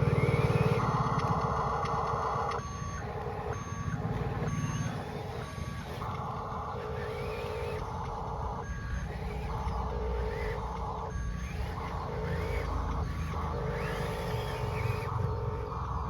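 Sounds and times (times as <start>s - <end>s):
toy motor humming: 0.0s - 16.0s.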